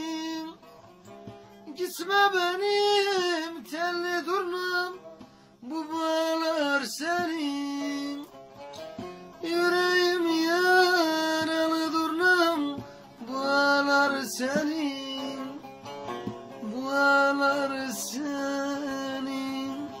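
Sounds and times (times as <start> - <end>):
man singing ornamented folk song: 0.0 - 20.0
plucked lute: 0.0 - 20.0.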